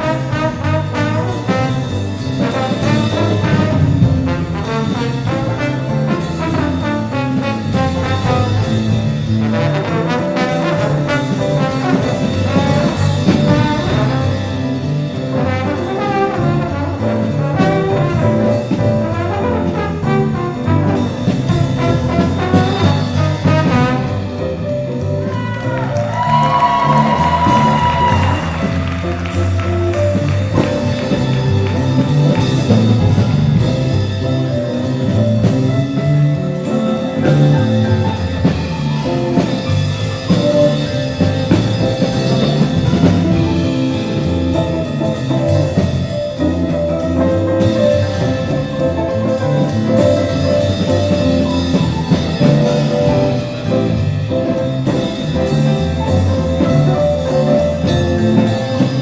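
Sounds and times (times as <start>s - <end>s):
jazz ensemble playing: 0.0s - 59.0s.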